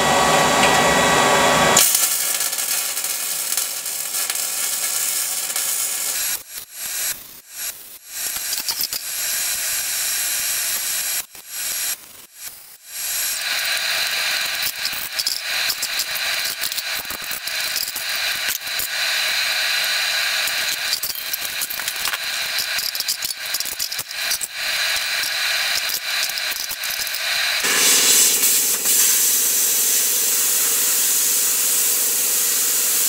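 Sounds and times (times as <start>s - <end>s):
welder arc crackling: 1.7s - 33.0s.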